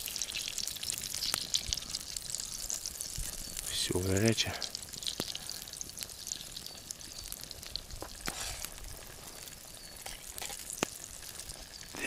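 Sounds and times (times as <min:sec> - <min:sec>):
garlic sizzling in butter: 0:00.0 - 0:12.0.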